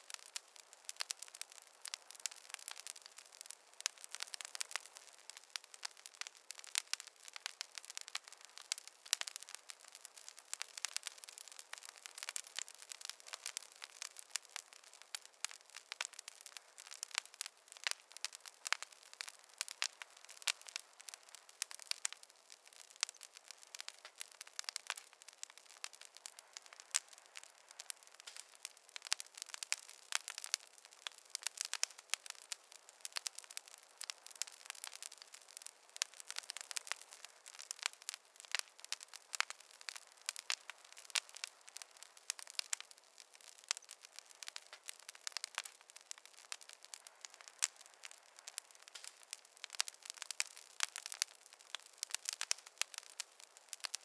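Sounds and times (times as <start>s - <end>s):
faint hiss: 0.0s - 54.0s
wood fire crackling: 0.0s - 54.0s.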